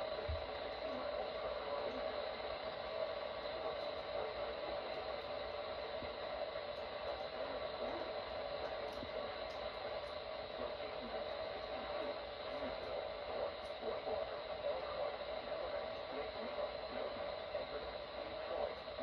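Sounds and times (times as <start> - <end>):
radio static and hiss: 0.0 - 19.0.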